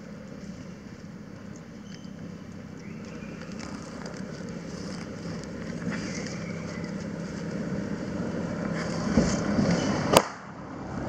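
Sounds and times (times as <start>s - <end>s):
dry leaves crackling: 0.0s - 9.1s
steady low rumble: 0.0s - 11.0s.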